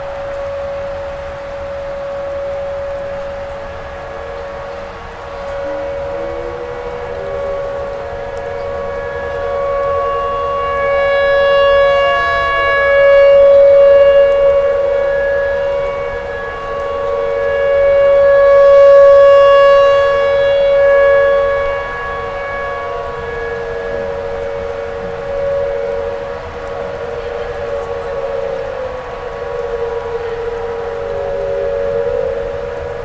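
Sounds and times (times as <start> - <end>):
tornado warning siren wailing: 0.0 - 33.0.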